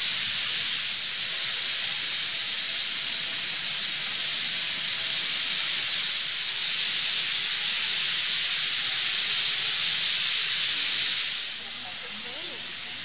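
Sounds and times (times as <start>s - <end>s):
rushing hiss of wingbeats: 0.0s - 13.0s.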